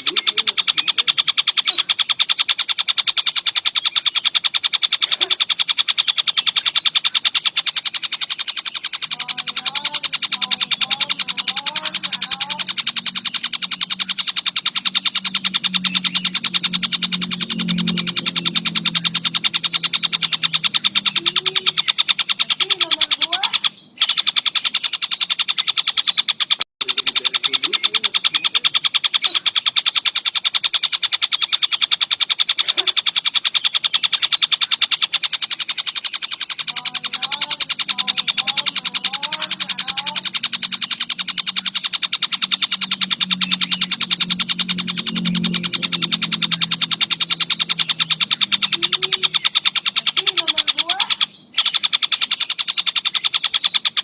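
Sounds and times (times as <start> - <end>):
low hum: 0.0 - 25.7, 26.8 - 53.9
kingfisher calling: 0.0 - 54.0.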